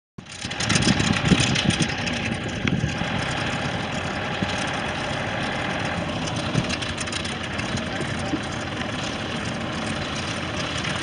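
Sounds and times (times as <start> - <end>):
biplane radial engine droning: 0.2 - 11.0.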